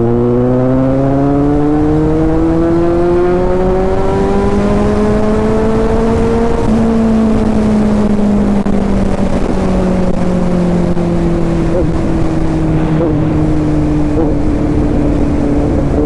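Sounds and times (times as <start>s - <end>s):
motorcycle engine accelerating: 0.0s - 16.0s
wind rumble on microphone: 0.0s - 16.0s.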